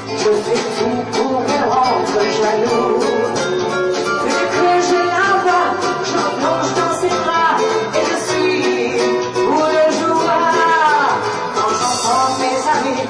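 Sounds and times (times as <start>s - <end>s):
live band with electronic keyboards: 0.0s - 13.0s
woman singing into microphone: 0.0s - 13.0s.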